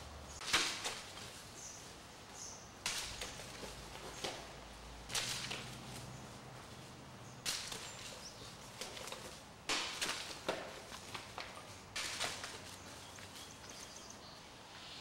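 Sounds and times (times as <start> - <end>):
footsteps crunching: 0.5 - 14.1.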